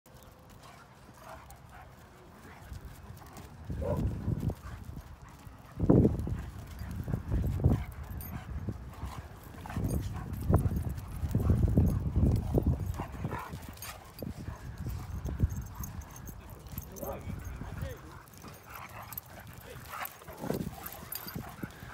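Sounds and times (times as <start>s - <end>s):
dogs growling while play-fighting: 2.6s - 21.9s.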